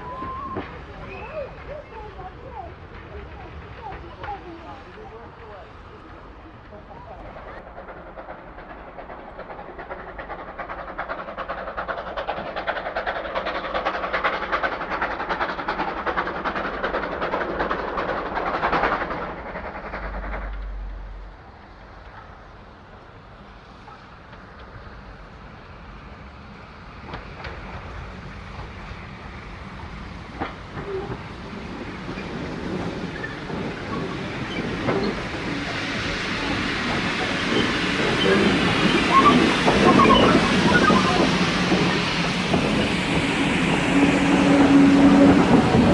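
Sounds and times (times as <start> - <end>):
train wheels clattering on rails: 0.0 - 45.9.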